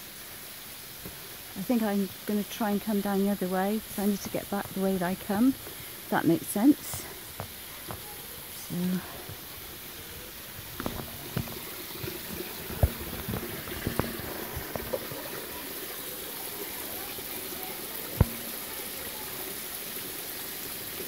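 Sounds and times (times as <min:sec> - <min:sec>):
waterfall onto boulders: 0:00.0 - 0:21.0.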